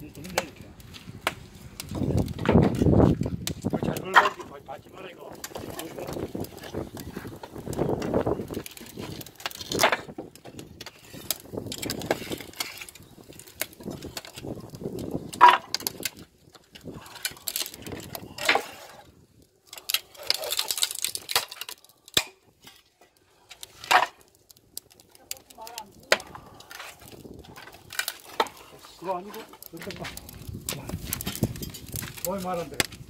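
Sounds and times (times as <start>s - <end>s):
firewood knocking and scraping: 0.0s - 33.0s.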